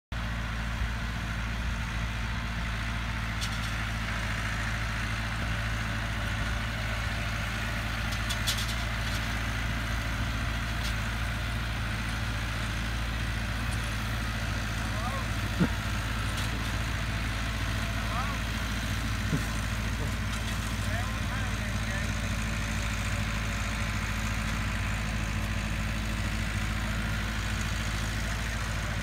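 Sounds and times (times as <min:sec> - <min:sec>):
tractor diesel engine running: 0:00.1 - 0:29.0.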